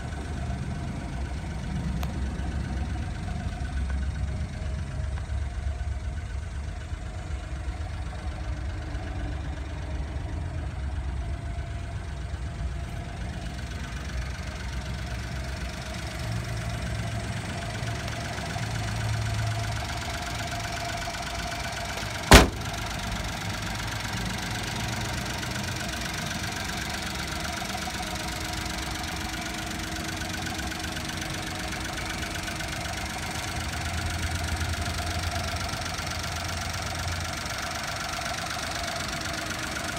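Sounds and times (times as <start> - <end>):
small truck engine idling: 0.0 - 39.9.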